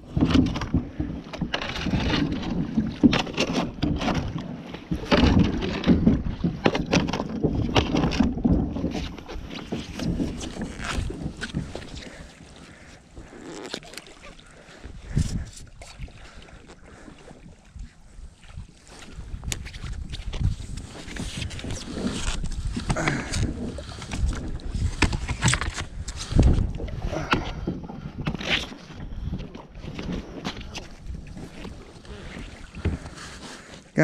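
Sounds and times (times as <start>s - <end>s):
paddle knocking plastic hull: 0.0s - 16.4s, 18.4s - 33.7s
paddle splashing water: 0.0s - 34.0s.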